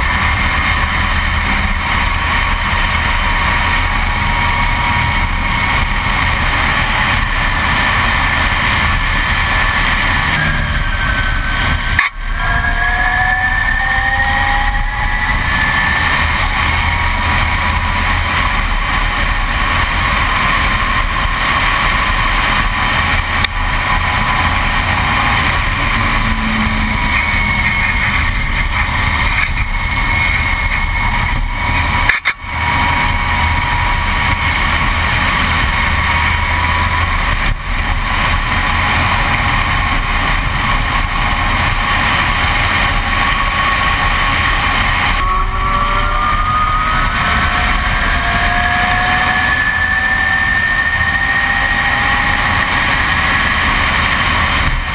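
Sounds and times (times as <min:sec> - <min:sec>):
electric motor whine: 0:00.0 - 0:54.9
wind rush over microphone: 0:00.0 - 0:54.9.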